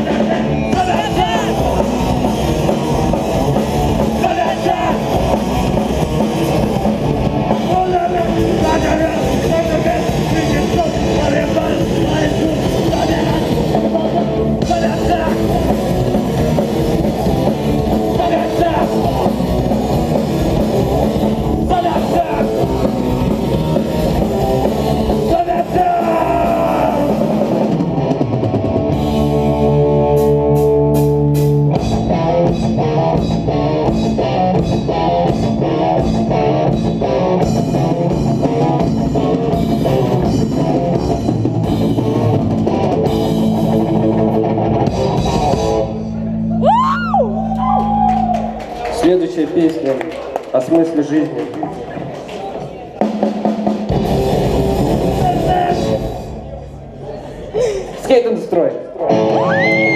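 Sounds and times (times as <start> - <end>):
drum kit playing: 0.0 - 46.8, 52.9 - 56.4
distorted electric guitar: 0.0 - 48.6, 53.0 - 56.6, 59.0 - 59.9.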